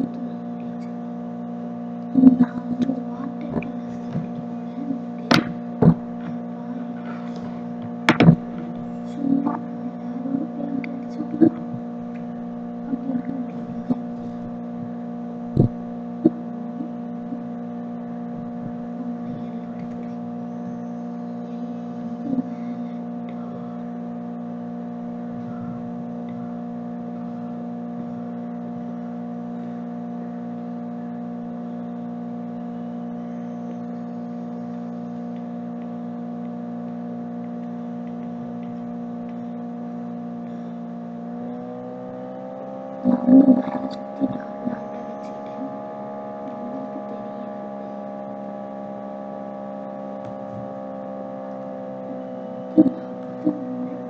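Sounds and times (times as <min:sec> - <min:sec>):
steady hum of held tones: 0:00.0 - 0:54.0.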